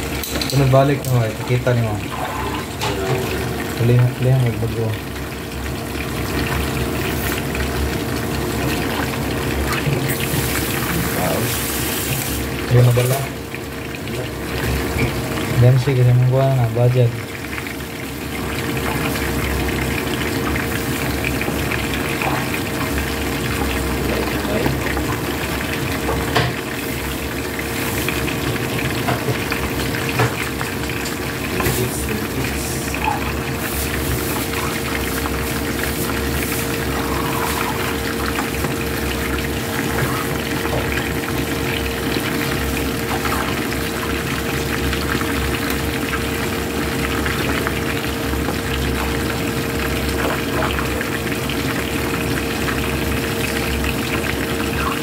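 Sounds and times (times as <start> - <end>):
fish sizzling in hot oil: 0.0 - 55.0
oil popping and crackling: 0.0 - 55.0.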